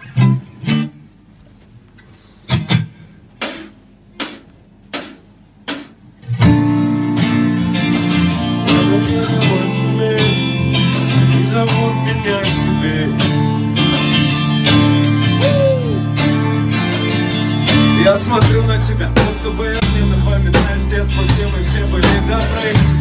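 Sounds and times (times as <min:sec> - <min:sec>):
live band playing: 0:02.5 - 0:23.0.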